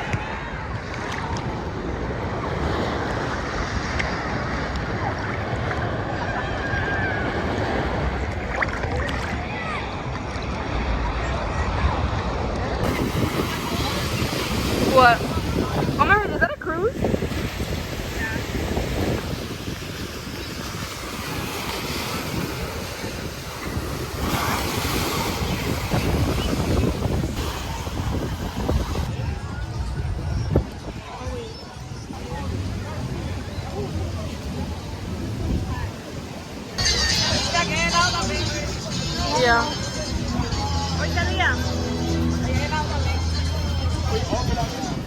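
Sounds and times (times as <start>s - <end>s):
surf: 0.0s - 45.0s
wind: 0.0s - 45.0s.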